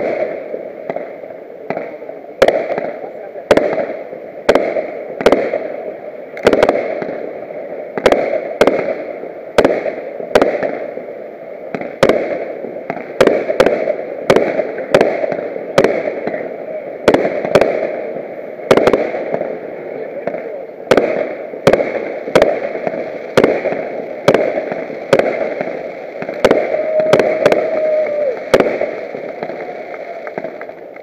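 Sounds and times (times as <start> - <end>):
fireworks bursting with bangs: 0.0 - 31.0.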